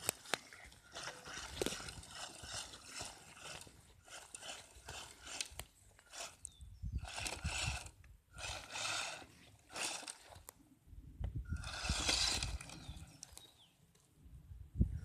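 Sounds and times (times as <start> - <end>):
electric motor whining: 0.0 - 10.5, 11.5 - 13.4
tyres scrabbling over ground: 0.0 - 10.5, 11.6 - 13.5.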